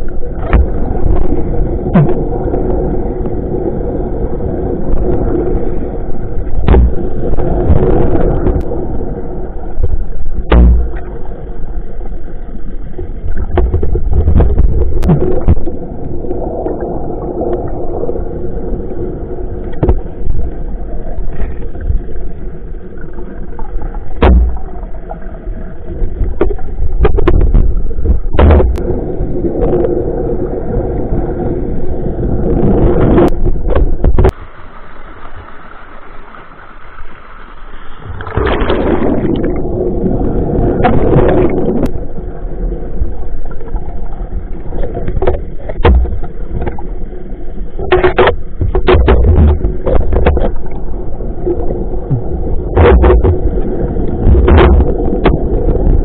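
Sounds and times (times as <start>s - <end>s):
gurgling water: 0.0s - 56.0s
underwater hum: 0.0s - 56.0s.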